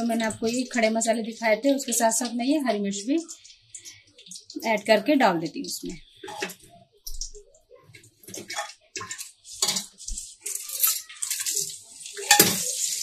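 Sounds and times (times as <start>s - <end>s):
loud steady sizzle: 0.0s - 13.0s
spices crackling in hot oil: 0.0s - 13.0s.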